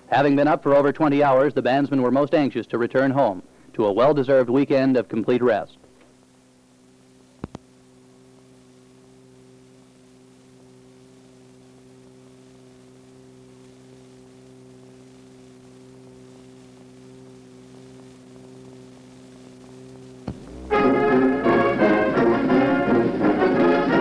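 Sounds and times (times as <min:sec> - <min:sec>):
electrical mains hum: 0:00.0 - 0:24.0
faint hiss: 0:00.0 - 0:24.0.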